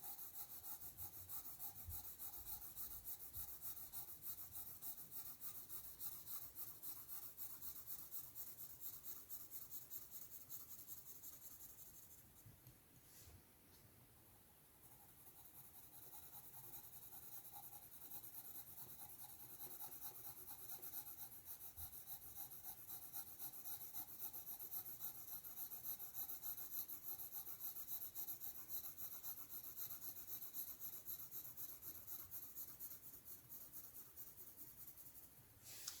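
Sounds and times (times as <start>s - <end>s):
pencil scratching on paper: 0.0s - 12.4s, 14.8s - 36.0s.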